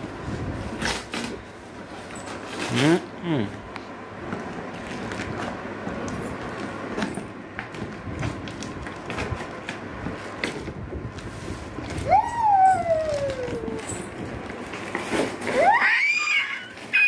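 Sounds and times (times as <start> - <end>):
tape and cardboard rustling: 0.0 - 3.1, 4.2 - 17.0.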